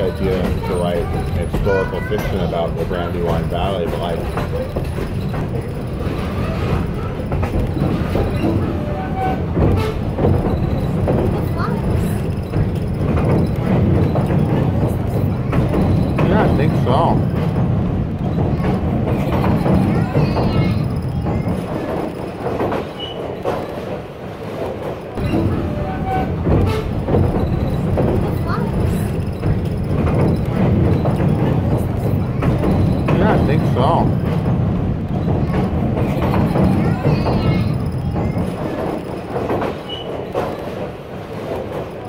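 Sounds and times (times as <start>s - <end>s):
indistinct voices: 0.0s - 42.0s
train coach rumbling on track: 0.0s - 42.0s.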